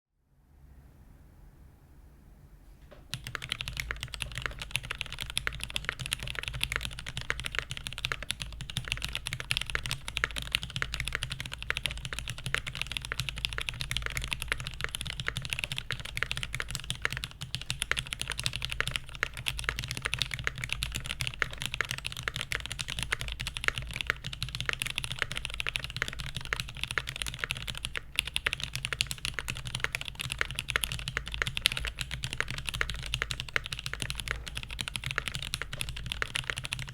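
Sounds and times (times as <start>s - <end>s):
fast mechanical keyboard typing: 3.1s - 36.9s.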